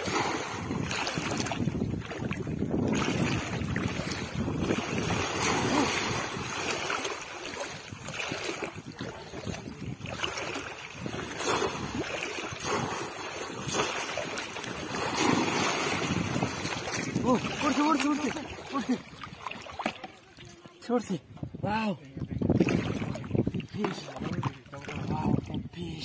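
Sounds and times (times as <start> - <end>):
wind buffeting microphone: 0.0 - 19.9, 21.0 - 26.0
water sloshing and splashing: 0.0 - 26.0.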